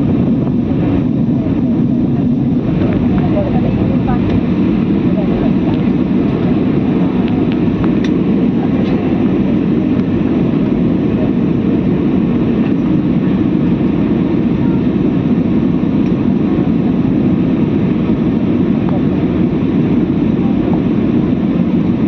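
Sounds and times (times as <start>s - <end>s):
airliner cabin engine noise: 0.0s - 22.0s.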